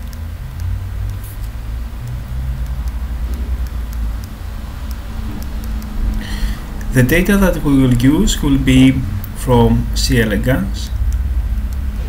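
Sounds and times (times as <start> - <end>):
faint light ticks: 0.0 - 7.2, 8.7 - 12.0
low mechanical rumble: 0.0 - 12.0.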